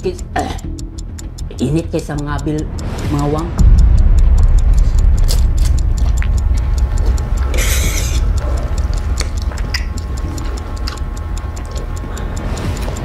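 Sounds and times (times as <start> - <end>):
countdown timer ticking: 0.0 - 13.0
low rumble: 2.1 - 13.0.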